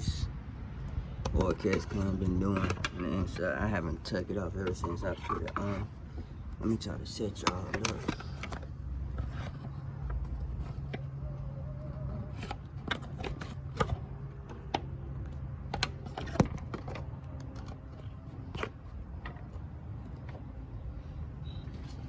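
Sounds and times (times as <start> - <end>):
clicks and knocks of handling: 0.8 - 22.0.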